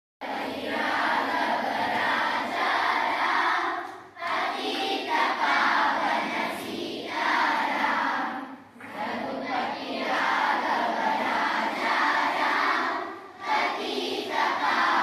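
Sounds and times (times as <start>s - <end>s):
group singing in unison: 0.2s - 15.0s.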